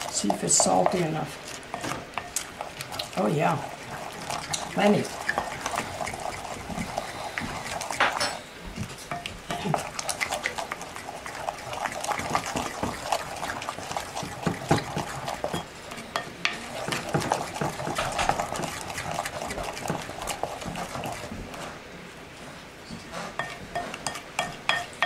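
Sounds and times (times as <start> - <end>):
utensil stirring thick paste: 0.0 - 21.9, 22.5 - 25.0.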